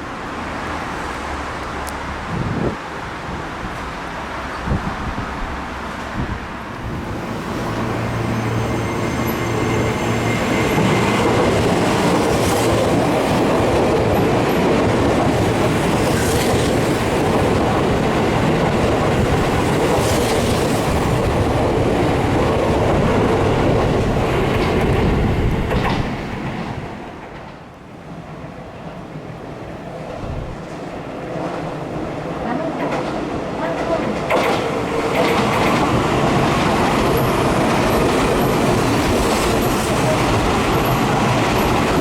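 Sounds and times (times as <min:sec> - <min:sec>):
electric train passing: 0:00.0 - 0:42.0.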